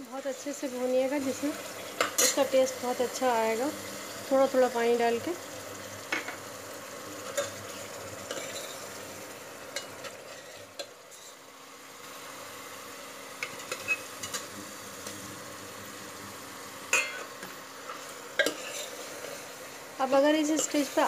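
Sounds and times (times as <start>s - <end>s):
masala sizzling: 0.0s - 21.0s.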